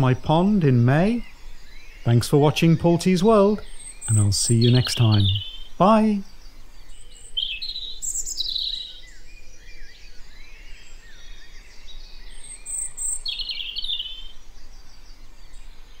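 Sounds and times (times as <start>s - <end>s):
birds singing: 0.0s - 16.0s.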